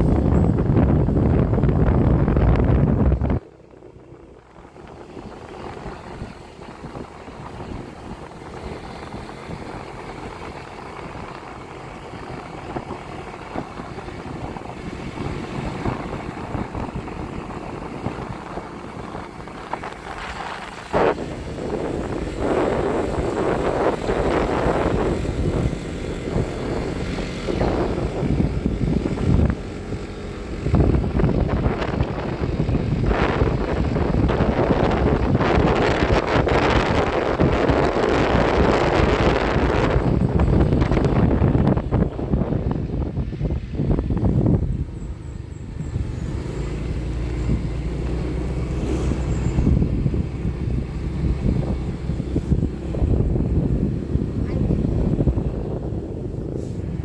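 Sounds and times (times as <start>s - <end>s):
road noise: 0.0s - 57.0s
vehicle rumble: 0.0s - 57.0s
wind buffeting microphone: 0.0s - 57.0s.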